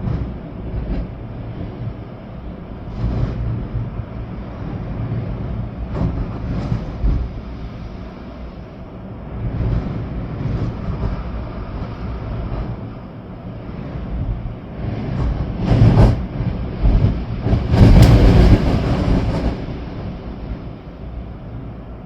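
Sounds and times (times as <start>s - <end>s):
low rumble: 0.0s - 22.0s
rain: 0.0s - 22.0s
storm wind gusting through trees: 0.0s - 22.0s.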